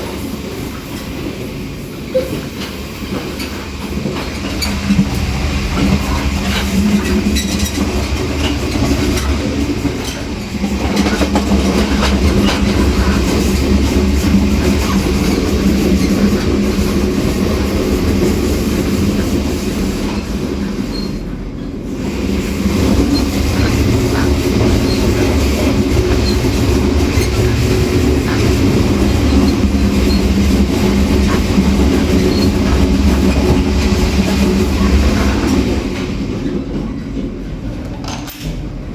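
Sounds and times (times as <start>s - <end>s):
train wheels clicking: 0.0s - 38.8s
train rumble and hum: 0.0s - 38.9s.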